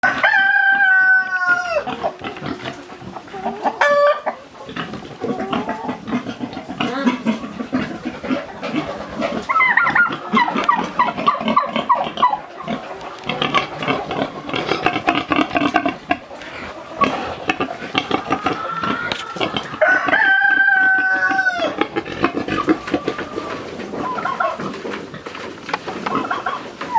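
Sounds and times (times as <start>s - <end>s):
chickens clucking: 0.0s - 26.9s
pigs grunting: 0.1s - 26.9s.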